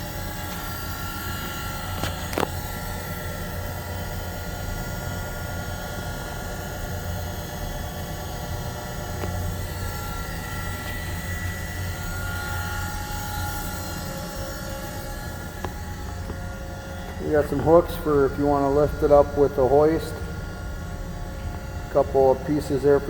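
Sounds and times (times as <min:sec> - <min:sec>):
surface grinder motor humming: 0:00.0 - 0:23.0.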